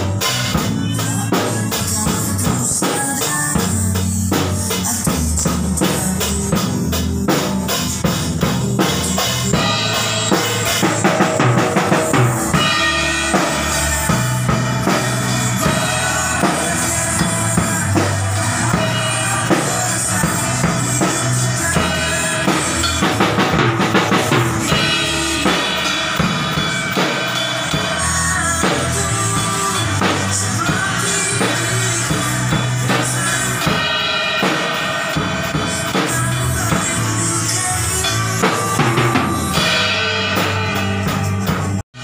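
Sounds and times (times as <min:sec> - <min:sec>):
drum kit steady beat: 0:00.0 - 0:42.0
song with instruments and bass: 0:00.0 - 0:42.0.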